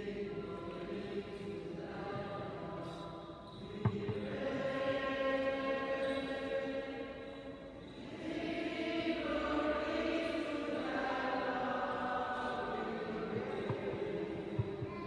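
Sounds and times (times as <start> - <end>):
slow sung chant: 0.0 - 15.0.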